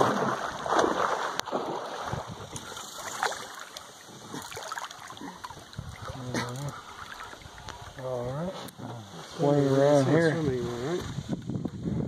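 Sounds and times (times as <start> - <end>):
water around a boat: 0.0 - 12.0
wind: 0.0 - 12.0.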